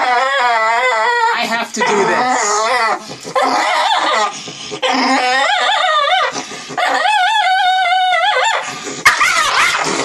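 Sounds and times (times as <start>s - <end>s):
dog whining and howling: 0.0s - 10.0s.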